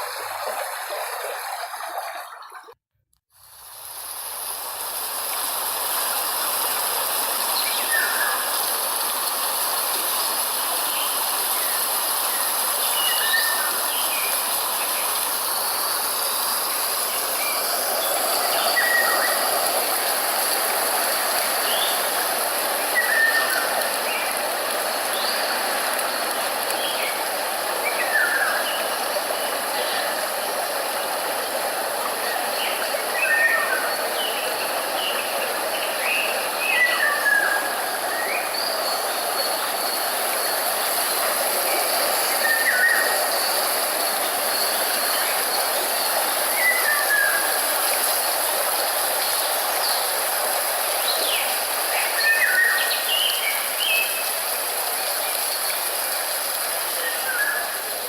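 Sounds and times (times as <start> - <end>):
steady rushing hiss: 3.4 - 58.0.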